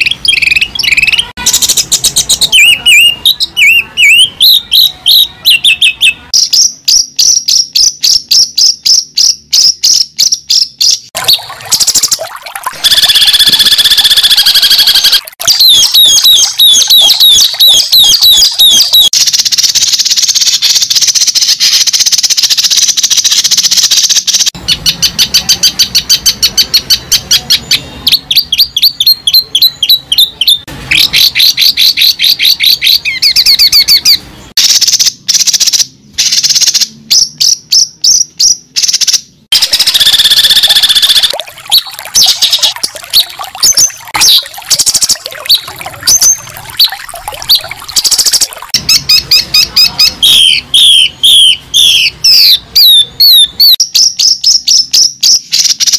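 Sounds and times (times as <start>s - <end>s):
bird chirping and trilling: 0.0s - 55.9s.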